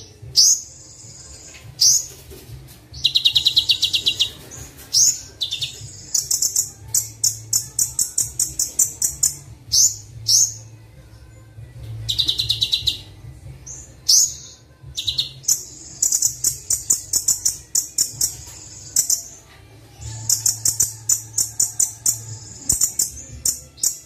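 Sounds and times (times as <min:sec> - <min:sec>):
sunbird chirping song: 0:03.0 - 0:10.8, 0:11.9 - 0:24.0.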